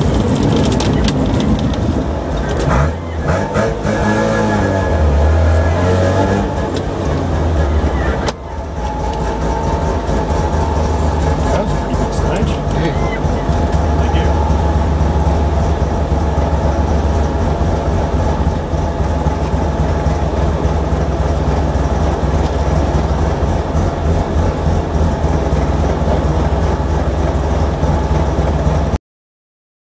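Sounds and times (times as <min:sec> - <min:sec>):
rotary engine idling: 0:00.0 - 0:03.9, 0:06.5 - 0:29.0.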